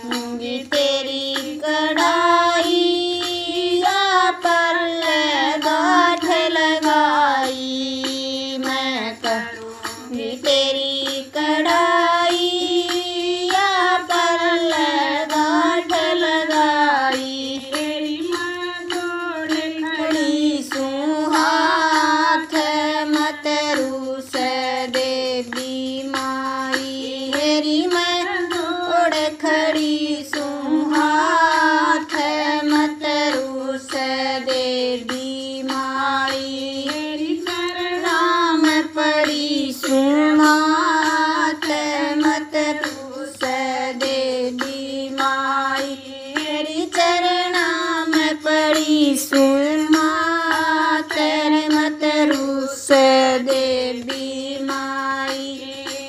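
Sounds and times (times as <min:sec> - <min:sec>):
woman singing: 0:00.0 - 0:56.0.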